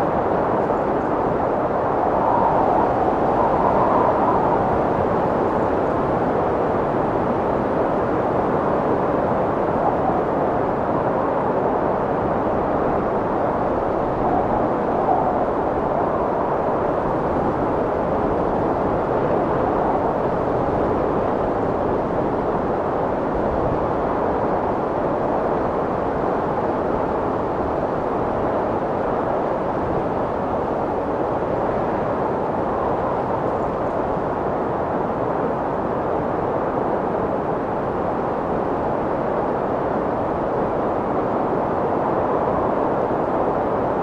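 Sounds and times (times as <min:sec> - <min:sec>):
strong wind blowing: 0:00.0 - 0:44.0.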